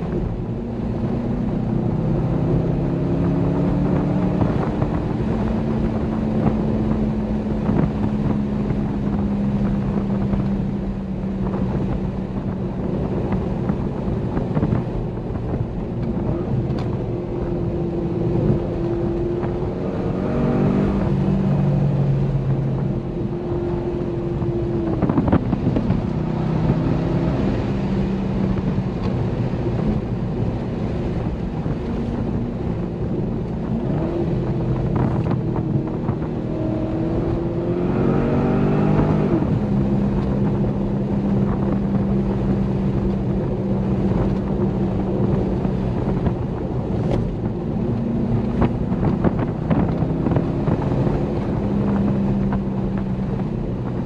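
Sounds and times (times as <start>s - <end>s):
car engine revving: 0.0s - 54.0s
wind and road noise: 0.0s - 54.0s.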